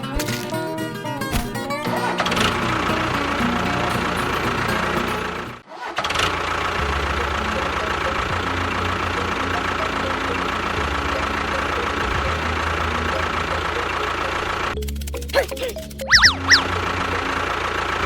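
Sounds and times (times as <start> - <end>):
small motor running: 2.0 - 18.0.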